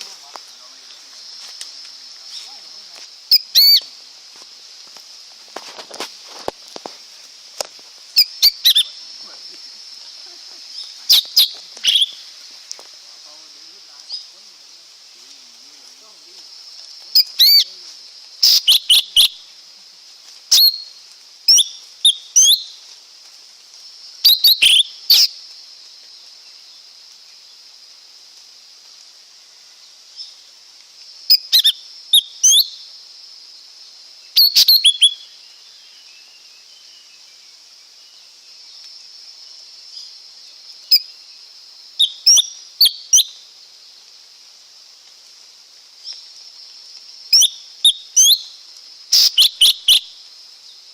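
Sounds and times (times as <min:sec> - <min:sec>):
steady high hiss: 0:00.0 - 0:50.9.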